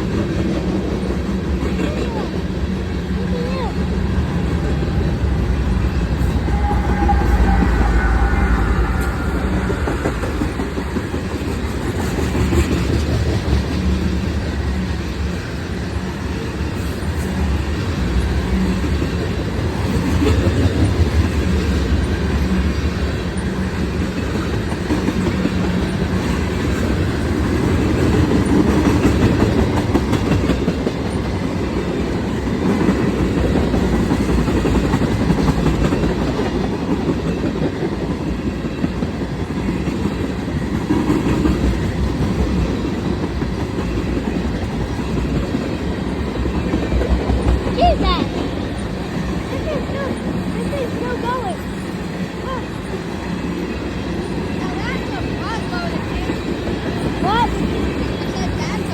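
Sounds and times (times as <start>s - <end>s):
train rumbling past: 0.0s - 58.9s.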